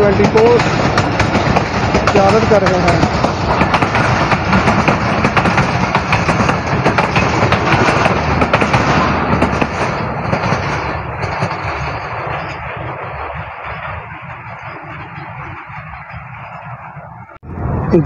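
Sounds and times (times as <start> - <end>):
train wheels clattering over rail joints: 0.0 - 17.3
train rumble: 0.0 - 18.0.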